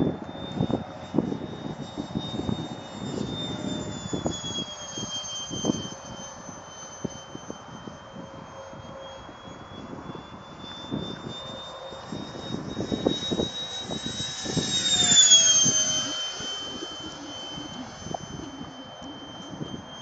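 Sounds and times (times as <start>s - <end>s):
model jet fan whining: 0.0s - 20.0s
wind buffeting microphone: 0.0s - 20.0s.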